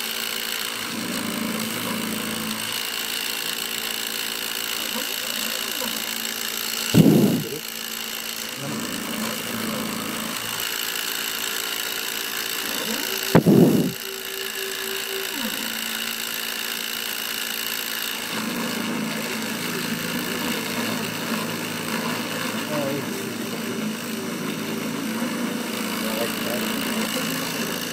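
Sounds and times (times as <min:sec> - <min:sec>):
engraving spindle whine: 0:00.0 - 0:27.9
stepper motors buzzing: 0:00.0 - 0:27.9.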